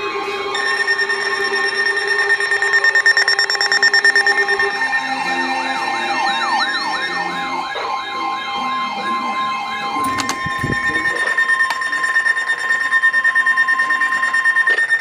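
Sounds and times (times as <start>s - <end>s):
alarm tones pulsing rapidly: 0.0s - 15.0s
siren sweeping up and down: 0.0s - 15.0s.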